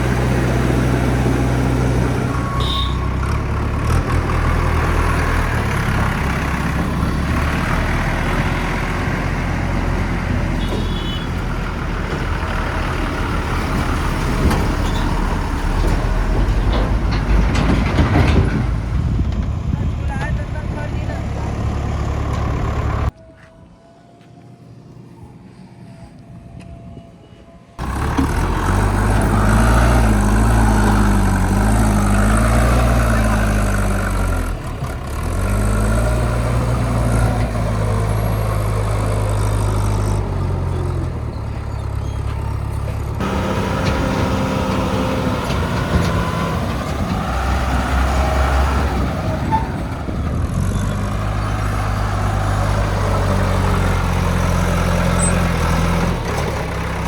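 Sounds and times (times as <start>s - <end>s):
diesel engine revving under load: 0.0s - 23.1s, 27.8s - 57.0s.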